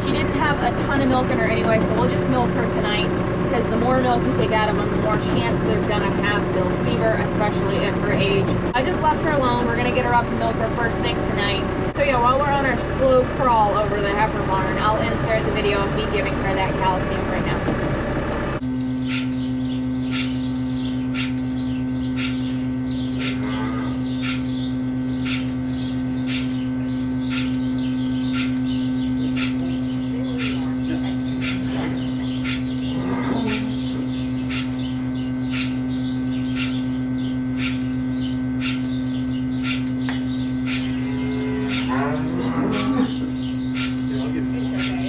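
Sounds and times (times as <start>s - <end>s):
machine hum: 0.0s - 45.0s.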